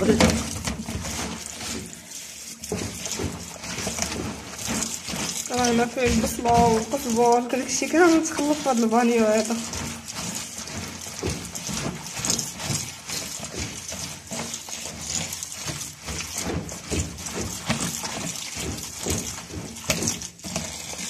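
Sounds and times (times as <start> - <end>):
hands squelching wet greens: 0.0 - 21.0
tap running into colander: 0.0 - 21.0.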